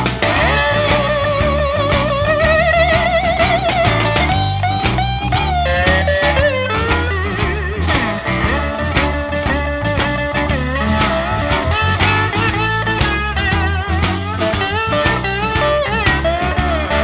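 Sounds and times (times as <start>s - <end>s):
bass line: 0.0s - 17.0s
drums: 0.0s - 17.0s
lead guitar bending notes: 0.0s - 17.0s.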